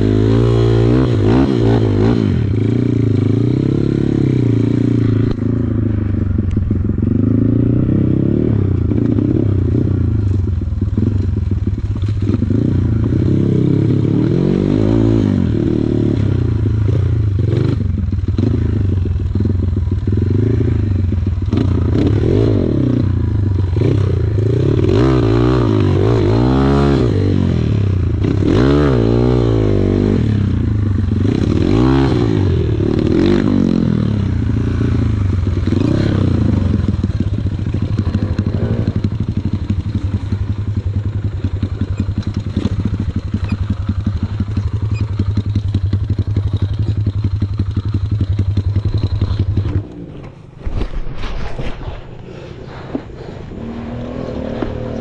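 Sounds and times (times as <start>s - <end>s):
motorbike engine revving: 0.0s - 50.9s, 51.6s - 55.0s.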